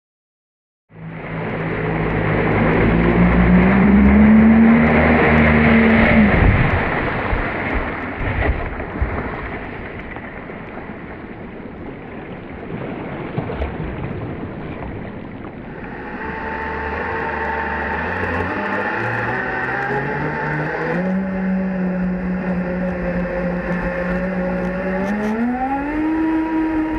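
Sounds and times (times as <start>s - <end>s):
water rushing: 0.9s - 26.9s
jet kayak engine running: 1.0s - 13.3s, 14.1s - 26.9s.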